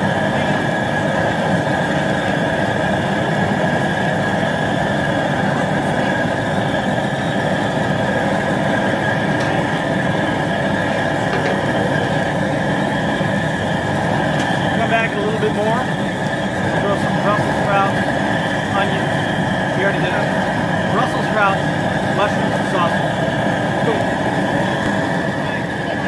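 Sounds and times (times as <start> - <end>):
propane burner rushing: 0.0 - 26.0.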